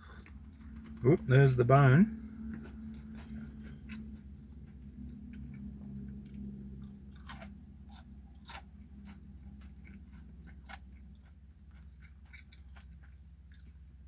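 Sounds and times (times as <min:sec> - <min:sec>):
chewing crispy fried chicken: 0:00.0 - 0:14.0
low steady hum: 0:00.0 - 0:14.0.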